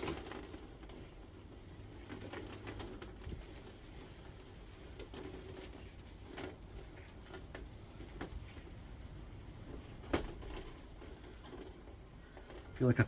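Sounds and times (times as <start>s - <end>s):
wire clicking and rustling: 0.0s - 13.0s.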